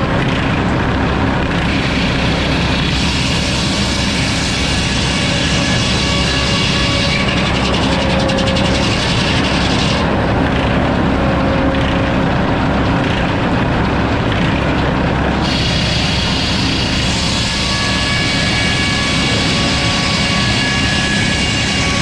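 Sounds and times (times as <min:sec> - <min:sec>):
sawmill sawing a log: 0:00.0 - 0:22.0.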